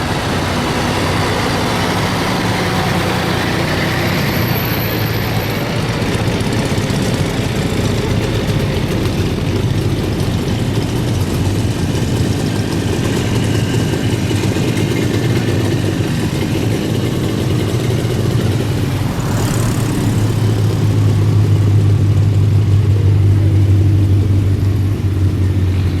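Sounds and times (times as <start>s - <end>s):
vehicle engines humming: 0.0s - 26.0s.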